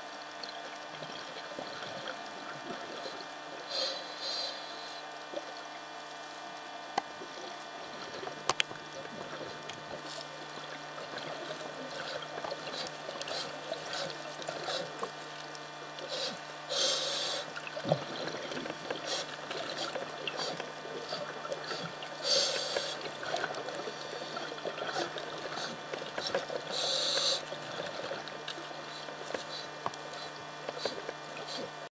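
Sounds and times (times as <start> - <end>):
regulator bubble hiss: 0.0 - 5.2, 8.8 - 31.7
steady low hum: 0.0 - 31.9.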